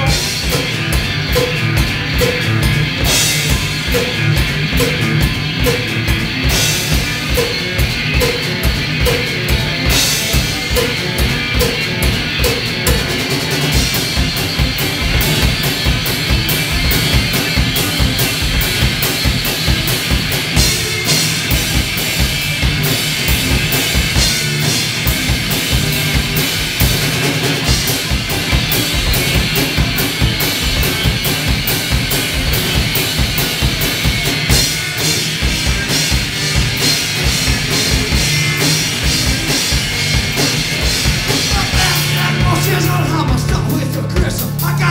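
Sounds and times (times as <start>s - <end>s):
amplified electric guitar: 0.0s - 44.9s
drum kit beat: 0.0s - 44.9s.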